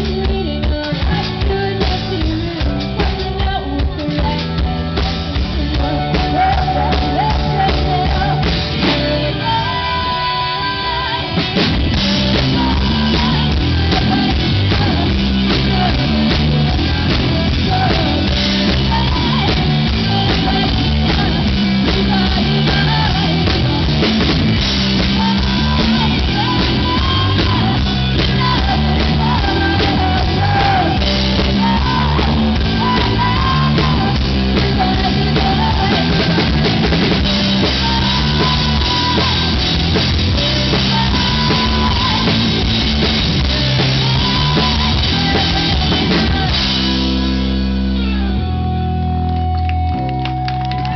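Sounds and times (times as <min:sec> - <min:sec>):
woman singing: 0:00.0 - 0:48.7
drum kit: 0:00.0 - 0:50.9
electric bass: 0:00.0 - 0:50.9
electric guitar: 0:00.0 - 0:50.9.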